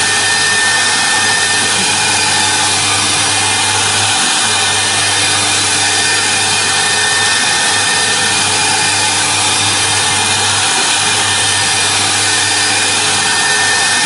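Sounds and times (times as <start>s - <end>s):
cnc router spindle whirring: 0.0s - 14.0s.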